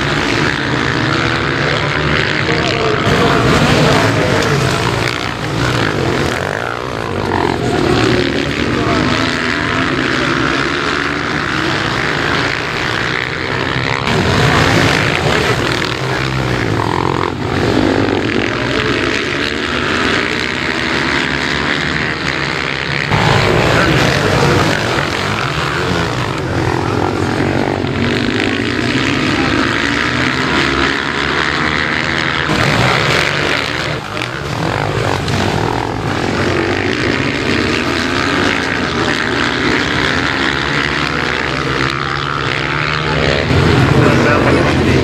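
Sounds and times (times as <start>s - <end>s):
racing motorcycles revving: 0.0s - 45.0s.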